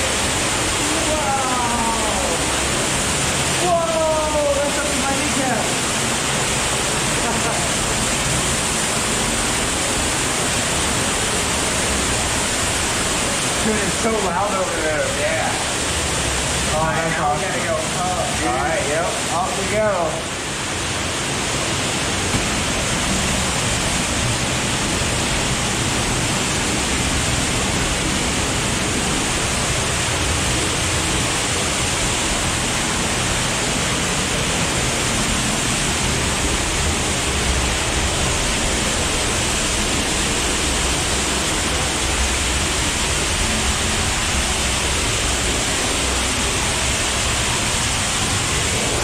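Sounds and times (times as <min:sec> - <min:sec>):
underground waterfall rushing: 0:00.0 - 0:49.0.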